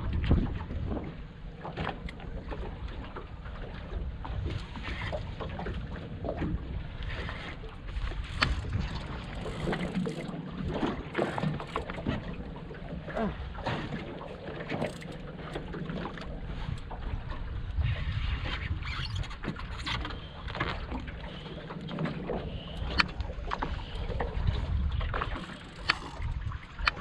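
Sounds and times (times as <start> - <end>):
water against boat hull: 0.0 - 27.0
wind: 0.0 - 27.0.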